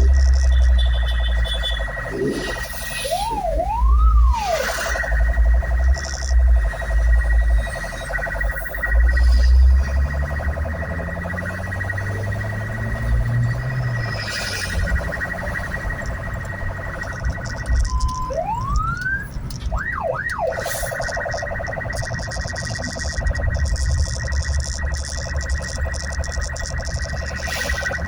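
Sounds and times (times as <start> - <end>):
electronic siren warbling: 0.0 - 28.0.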